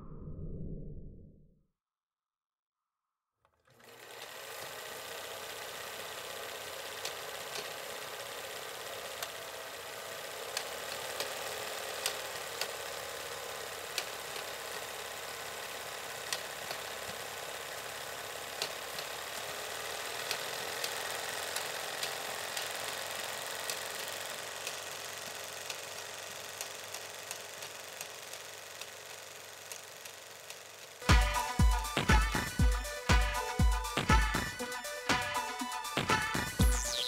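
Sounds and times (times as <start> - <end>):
film projector running: 3.5 - 37.0.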